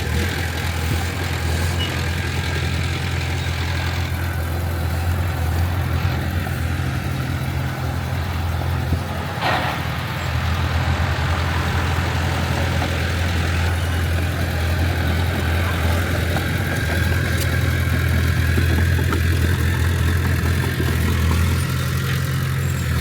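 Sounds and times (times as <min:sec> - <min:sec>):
heavy diesel engine droning: 0:00.0 - 0:23.0.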